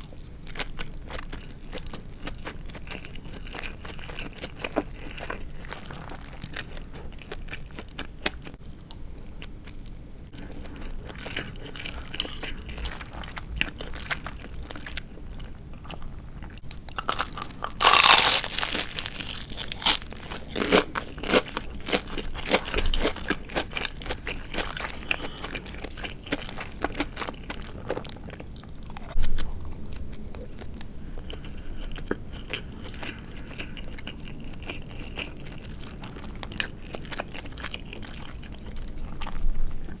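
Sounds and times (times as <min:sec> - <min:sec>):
chewing and crunching fried chicken: 0:00.0 - 0:40.0.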